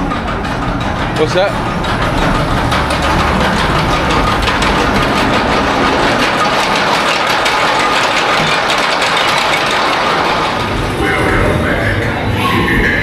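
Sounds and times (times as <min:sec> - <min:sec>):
roller coaster train rumbling: 0:00.0 - 0:13.0.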